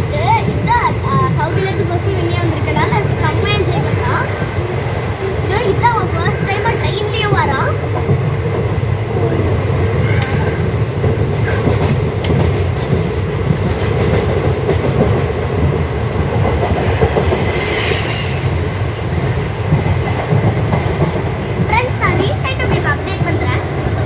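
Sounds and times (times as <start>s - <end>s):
train rumble inside carriage: 0.0s - 24.0s
train wheels clicking: 0.0s - 24.0s.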